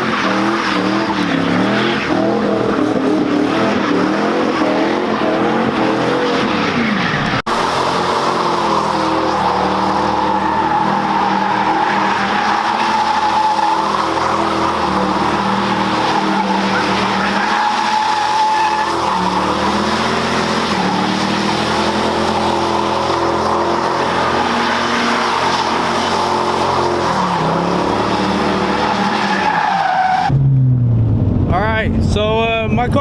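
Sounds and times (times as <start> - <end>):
tire squeal: 0.0 - 30.4
car engine revving high: 0.0 - 31.5.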